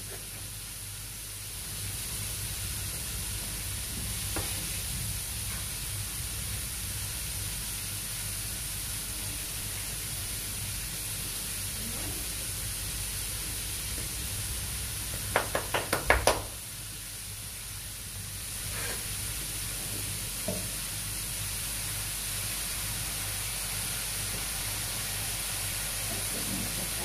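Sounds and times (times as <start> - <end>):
fish sizzling in oil: 0.0 - 27.0.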